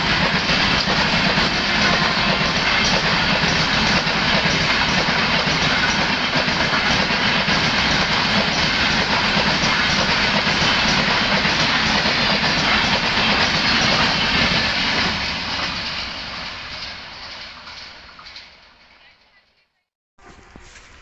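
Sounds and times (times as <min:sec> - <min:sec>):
train wheels rumbling on track: 0:00.0 - 0:19.4.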